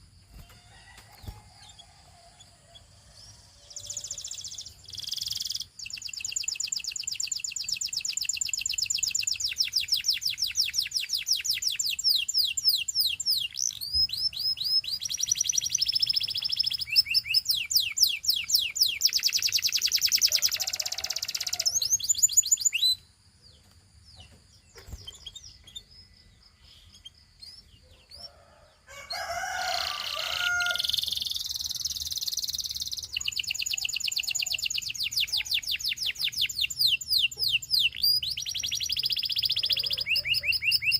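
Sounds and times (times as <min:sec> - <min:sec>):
canary trilling song: 0:00.0 - 0:40.9.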